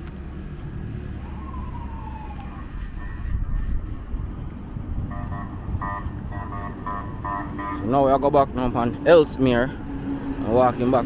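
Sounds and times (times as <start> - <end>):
street traffic rumble: 0.0 - 11.0
emergency vehicle siren: 0.8 - 4.2, 5.0 - 11.0.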